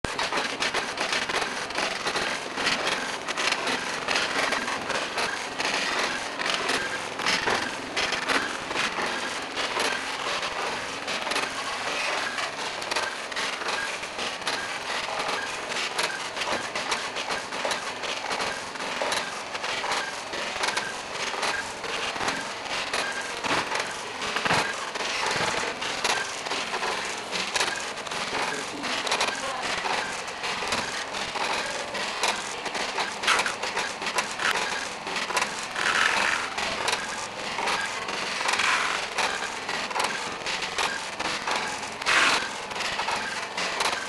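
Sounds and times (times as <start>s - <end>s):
packaging machine running: 0.0s - 44.0s.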